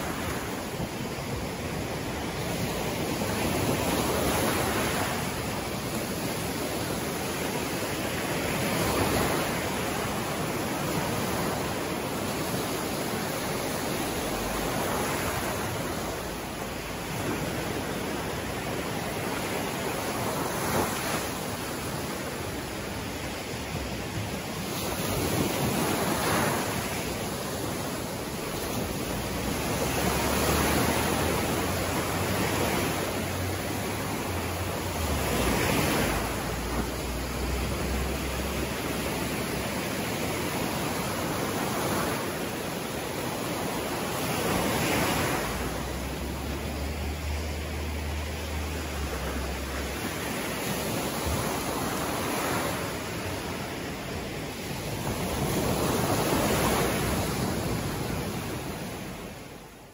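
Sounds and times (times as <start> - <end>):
surf breaking on a beach: 0.0 - 59.9.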